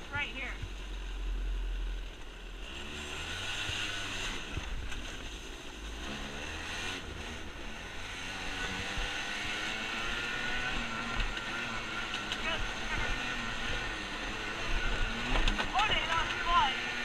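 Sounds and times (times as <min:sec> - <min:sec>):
dirt bike engine: 0:00.0 - 0:17.0.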